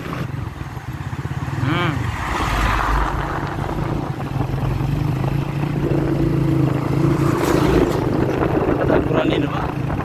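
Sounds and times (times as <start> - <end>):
motorcycle engine running: 0.0 - 2.3, 3.2 - 10.0
wind and road noise: 0.0 - 10.0.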